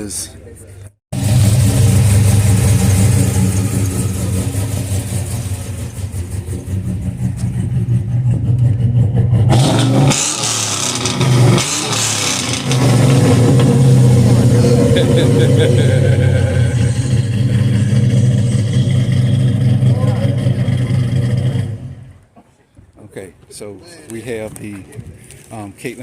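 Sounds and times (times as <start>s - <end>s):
car engine idling: 1.2s - 22.4s.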